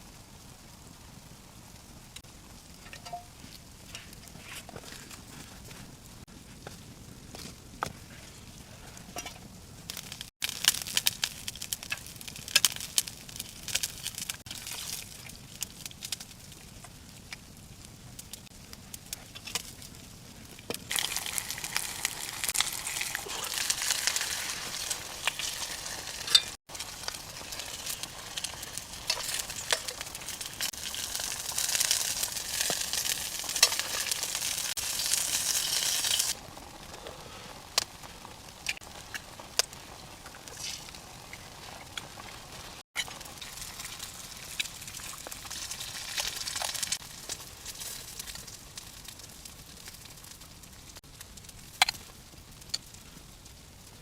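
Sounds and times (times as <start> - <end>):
food sizzling over fire: 0.0 - 54.0.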